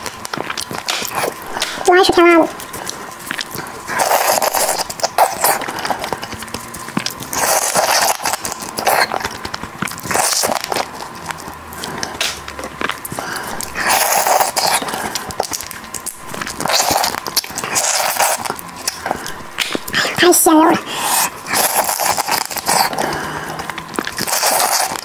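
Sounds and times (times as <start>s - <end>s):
shell crackling and chewing: 0.0s - 25.0s
wet slurping: 0.0s - 25.0s.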